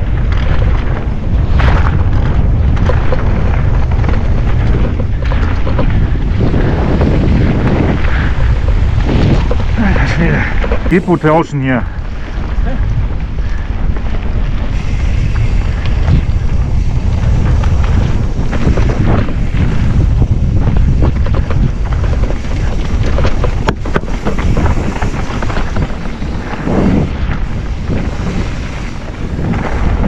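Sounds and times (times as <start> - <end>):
bike knocking and rattling: 0.0 - 30.0
wind over camera microphone: 0.0 - 30.0.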